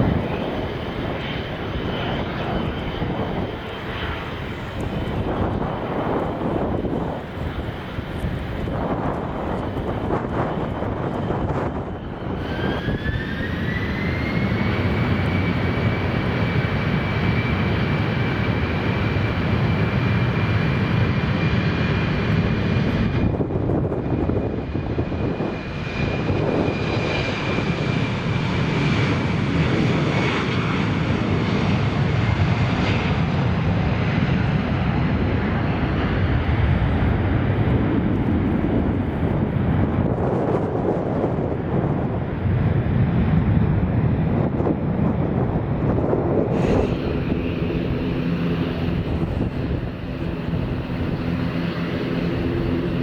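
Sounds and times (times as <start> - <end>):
jet engine rumble: 0.0 - 53.0
jet engine whine: 0.0 - 53.0.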